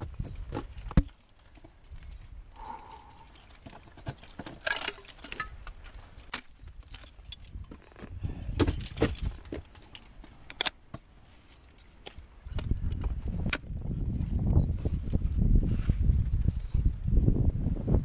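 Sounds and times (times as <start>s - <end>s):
metal climbing gear clinking: 0.0s - 17.2s.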